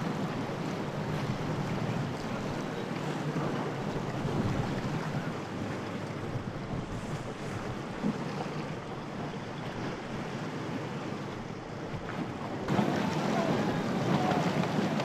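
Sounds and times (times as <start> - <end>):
sea water rushing and splashing: 0.0 - 15.0
wind buffeting microphone: 0.0 - 15.0.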